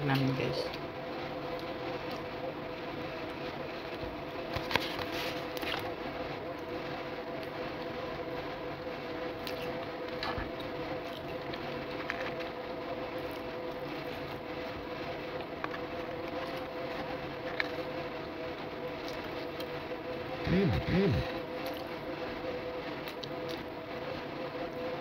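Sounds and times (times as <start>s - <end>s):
machine hum with pitched tone: 0.0s - 25.0s.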